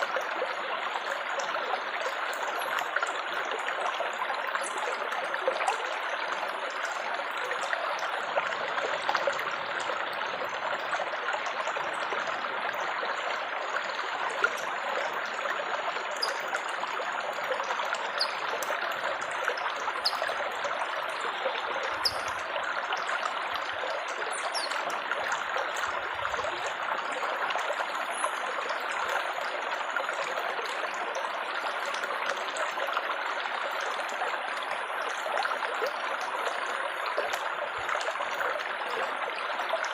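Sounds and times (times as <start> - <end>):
water trickling and burbling: 0.0 - 39.9.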